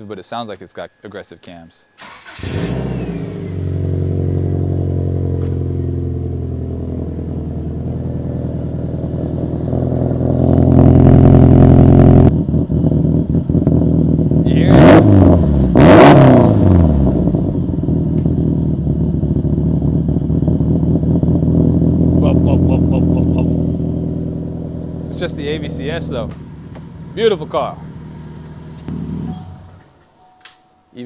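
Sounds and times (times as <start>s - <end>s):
car engine idling and revving: 2.0s - 30.2s.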